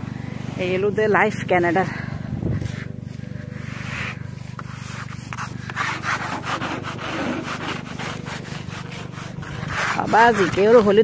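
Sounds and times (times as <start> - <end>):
steady low hum: 0.0 - 11.0
snow brushed and scraped off car: 0.1 - 11.0.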